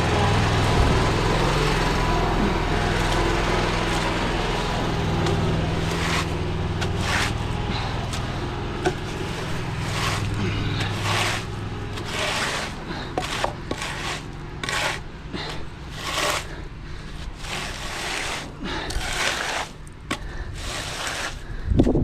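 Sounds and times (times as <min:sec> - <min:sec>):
engine running: 0:00.0 - 0:22.0
tool scraping concrete: 0:00.0 - 0:22.0.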